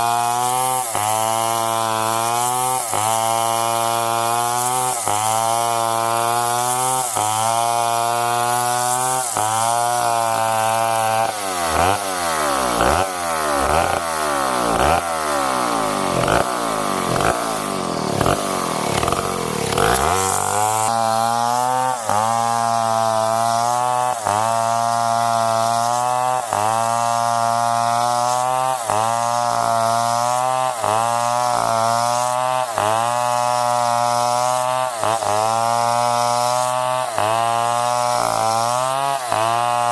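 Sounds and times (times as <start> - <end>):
chainsaw cutting a tree: 0.0 - 39.9.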